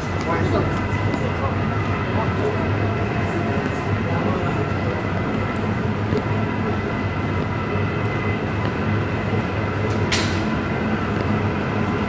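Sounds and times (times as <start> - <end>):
faint footsteps: 0.0 - 12.0
low hum and rumble: 0.0 - 12.0.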